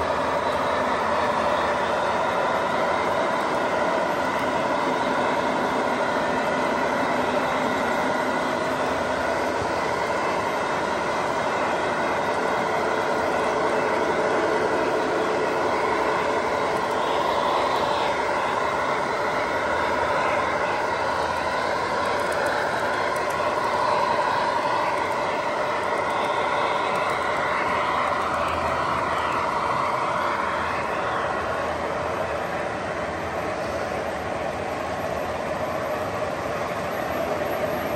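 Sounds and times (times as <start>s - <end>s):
electronic diesel engine sound: 0.0s - 37.9s
model train wheels on track: 0.0s - 37.9s.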